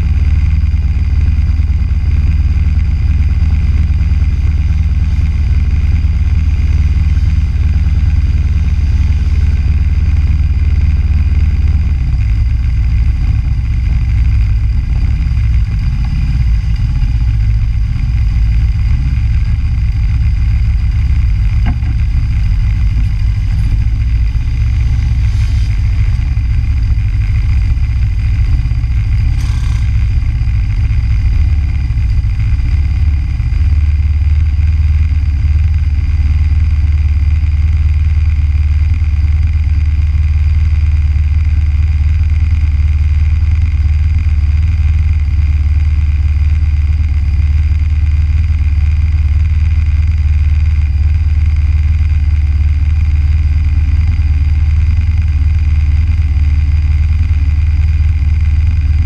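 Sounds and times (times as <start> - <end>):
go-kart engine idling: 0.0 - 59.0.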